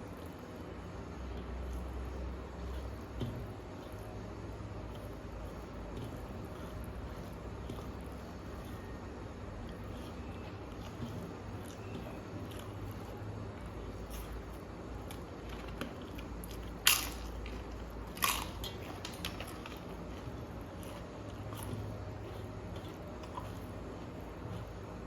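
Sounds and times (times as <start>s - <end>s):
chewing and mouth clicks: 1.3s - 4.2s, 4.8s - 25.0s.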